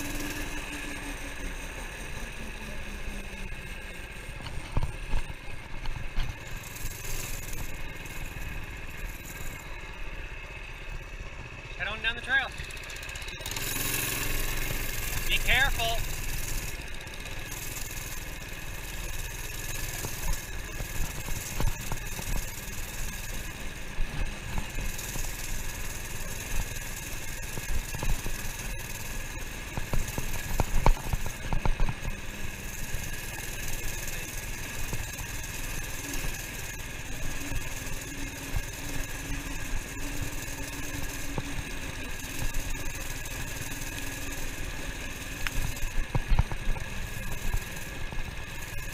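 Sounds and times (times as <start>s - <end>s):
minibike engine running: 0.0s - 48.9s.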